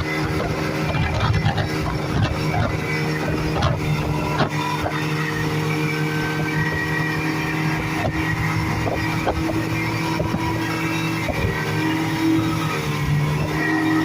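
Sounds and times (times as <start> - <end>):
speedboat engine running: 0.0 - 14.0.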